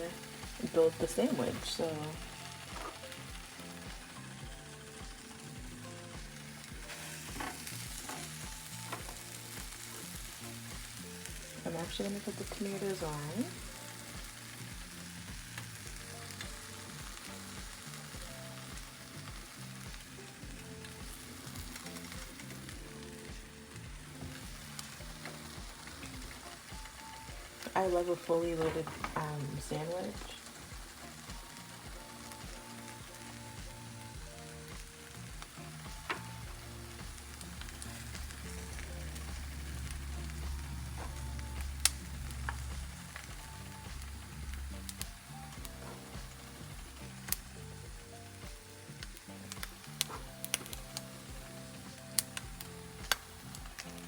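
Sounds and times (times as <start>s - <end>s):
food sizzling in a pan: 0.0s - 54.0s
quiet background music with beat: 0.0s - 54.0s.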